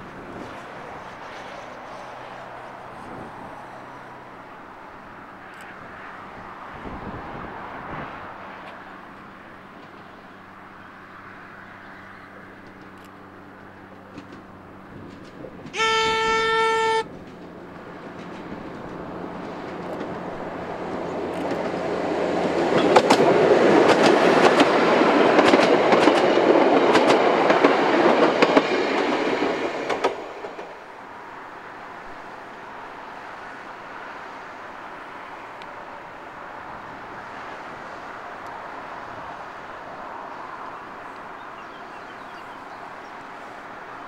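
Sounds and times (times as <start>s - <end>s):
diesel railcar passing: 0.0s - 44.0s.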